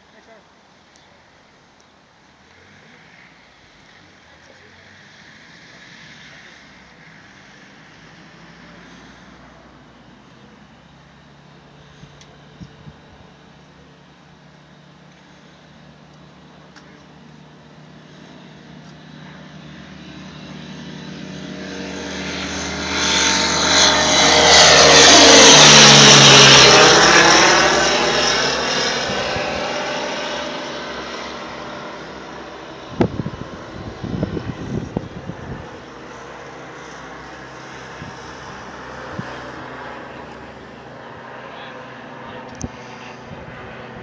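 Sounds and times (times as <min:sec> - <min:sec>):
propeller aircraft flying overhead: 0:00.0 - 0:44.0.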